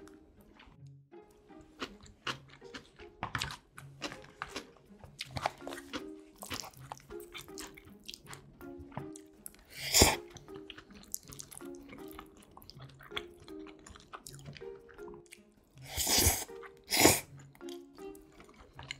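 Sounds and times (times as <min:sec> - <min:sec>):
crisp chewing: 0:00.0 - 0:18.9
soft background music: 0:00.0 - 0:18.9
wet mouth noises: 0:01.8 - 0:18.9.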